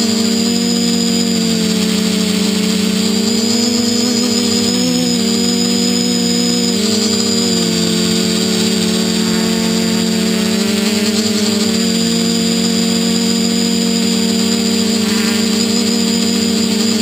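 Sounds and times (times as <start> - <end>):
drone motors humming and whining: 0.0 - 17.0.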